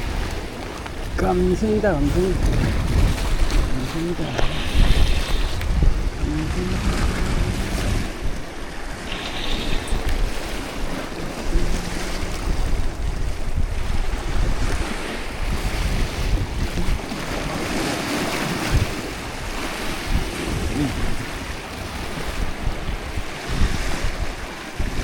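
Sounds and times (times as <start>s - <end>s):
sea waves washing: 0.0s - 25.0s
wind buffeting microphone: 0.0s - 25.0s.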